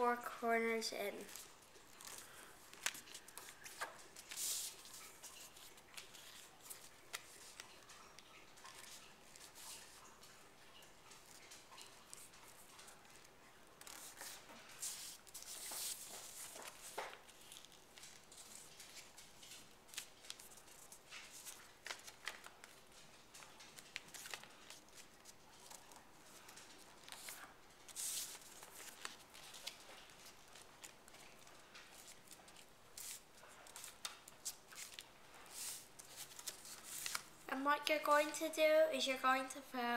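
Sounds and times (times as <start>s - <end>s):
paper rustling and crackling: 1.2s - 37.4s.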